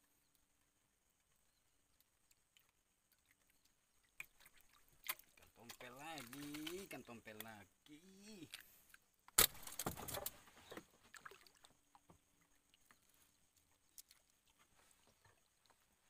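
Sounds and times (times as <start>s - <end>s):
faint scattered ticks: 0.0s - 16.0s.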